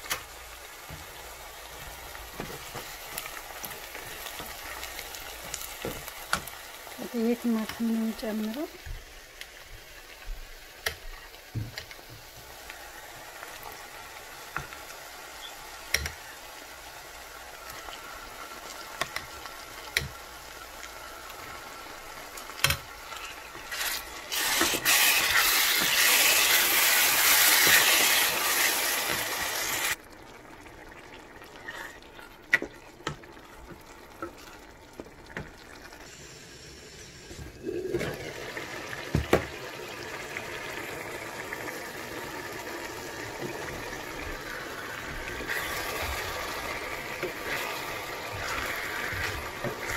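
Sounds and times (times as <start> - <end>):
tomato sizzling in hot oil: 0.0 - 49.9.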